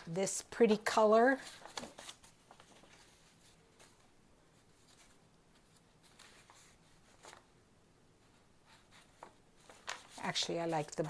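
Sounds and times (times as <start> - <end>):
paper sheets rustling: 0.0 - 7.5, 8.3 - 11.0.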